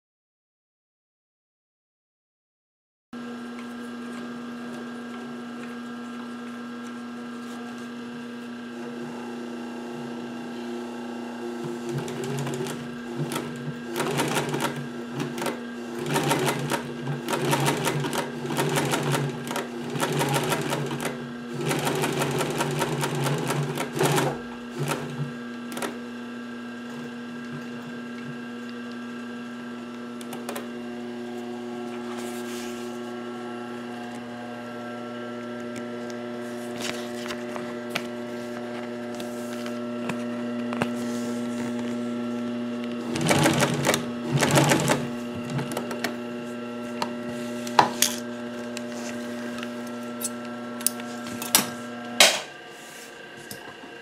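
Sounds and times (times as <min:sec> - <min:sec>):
steady machine hum: 0:03.2 - 0:54.0.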